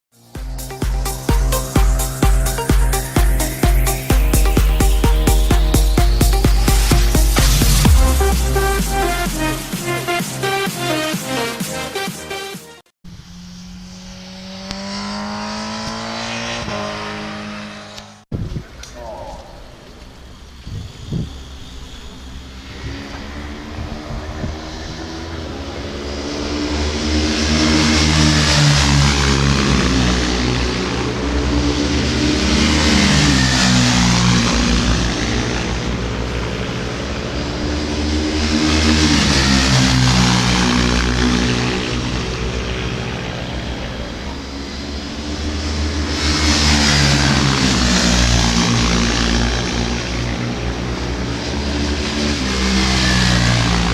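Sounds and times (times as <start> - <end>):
racing motorcycles passing: 0.2 - 12.5, 13.1 - 18.2, 18.8 - 53.9.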